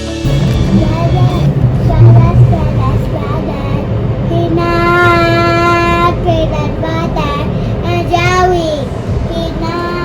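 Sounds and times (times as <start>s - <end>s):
steady low rumble: 0.0s - 10.0s
young child singing: 0.3s - 10.0s.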